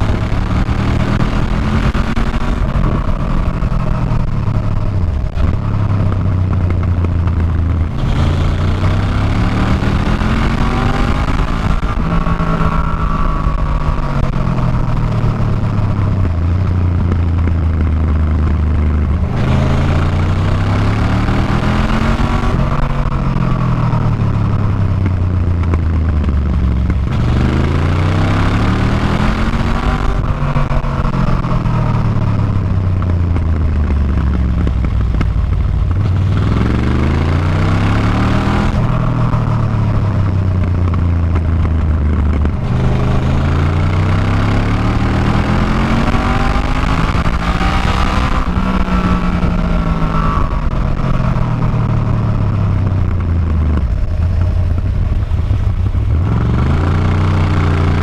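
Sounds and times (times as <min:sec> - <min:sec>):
rushing noise: 0:00.0 - 0:58.0
vehicle engine accelerating: 0:00.0 - 0:58.0.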